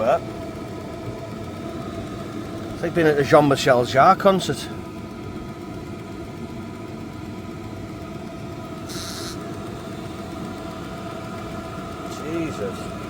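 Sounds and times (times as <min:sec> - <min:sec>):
heater fan whine: 0:00.0 - 0:13.0
low combustion rumble: 0:00.0 - 0:13.0.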